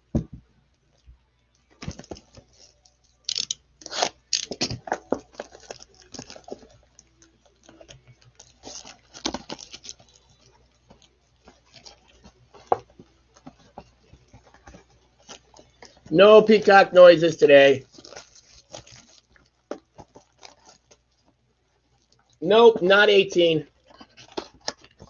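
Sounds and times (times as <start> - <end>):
plastic wrap crinkling and tearing: 1.8 - 16.7, 17.7 - 22.4, 23.7 - 25.0.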